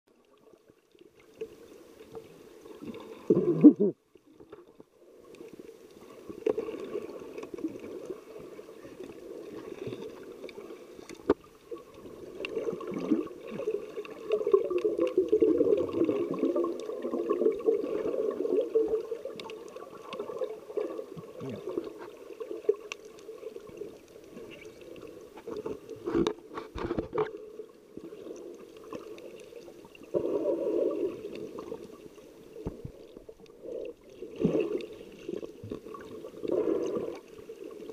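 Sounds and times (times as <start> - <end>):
muffled underwater sloshing: 0.1 - 37.9.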